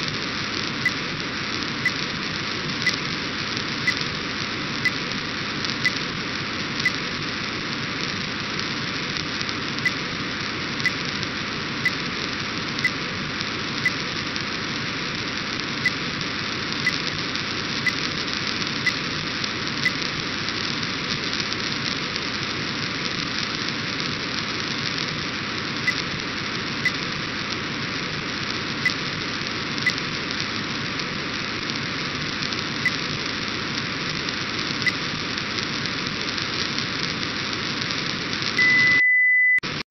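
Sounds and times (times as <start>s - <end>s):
radio receiver hiss: 0.0s - 38.7s.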